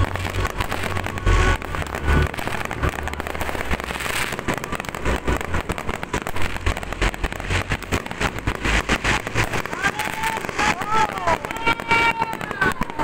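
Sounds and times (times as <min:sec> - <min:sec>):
deep fireworks booms: 0:00.0 - 0:13.0
fireworks crackling: 0:00.0 - 0:13.0.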